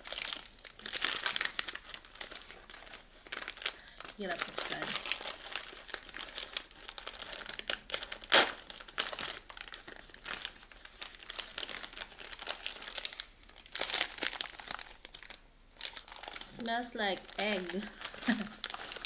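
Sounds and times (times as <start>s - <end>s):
snack packaging crinkling: 0.0s - 19.0s.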